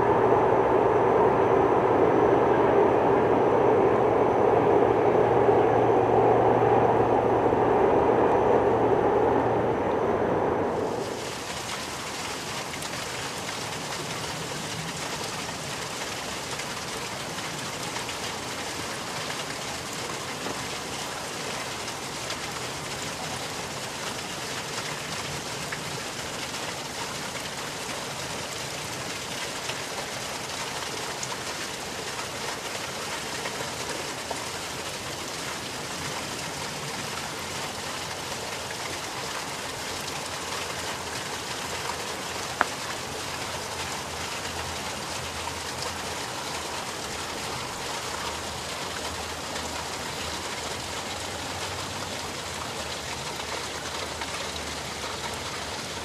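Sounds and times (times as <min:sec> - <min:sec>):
water running and trickling: 0:11.0 - 0:56.0.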